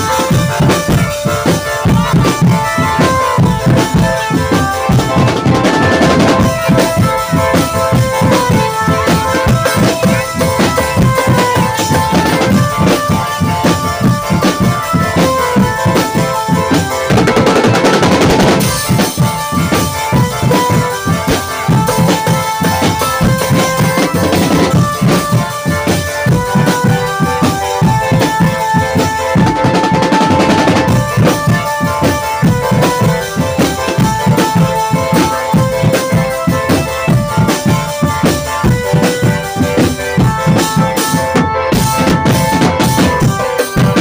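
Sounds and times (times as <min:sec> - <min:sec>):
bass drum: 0:00.0 - 0:44.0
drum and snare hits: 0:00.0 - 0:44.0
held melody line: 0:00.0 - 0:44.0.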